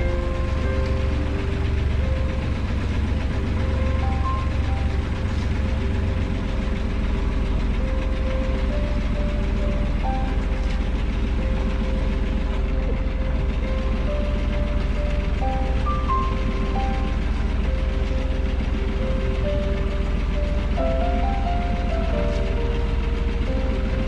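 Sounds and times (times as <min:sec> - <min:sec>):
boat engine rumbling: 0:00.0 - 0:24.0.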